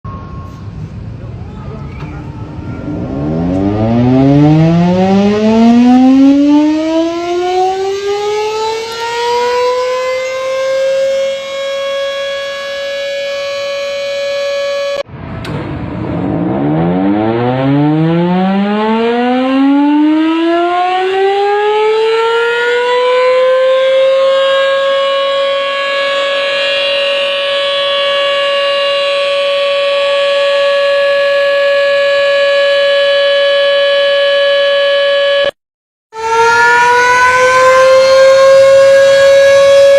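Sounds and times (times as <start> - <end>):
siren wail rising in pitch: 2.2 - 39.9.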